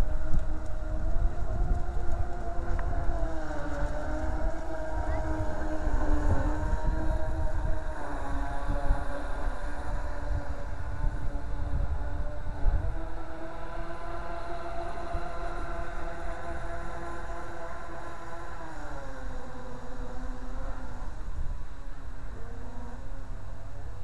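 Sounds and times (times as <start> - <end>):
model speedboat motors whining: 0.0 - 24.0
wind rumble on microphone: 0.0 - 24.0.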